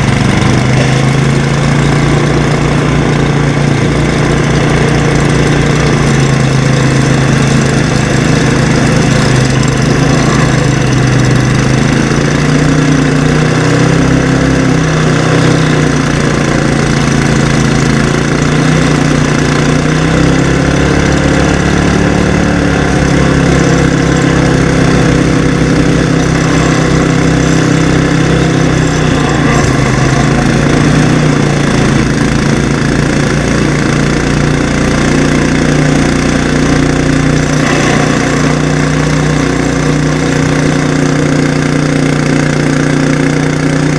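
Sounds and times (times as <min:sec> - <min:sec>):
garden tractor engines straining: 0:00.0 - 0:43.9.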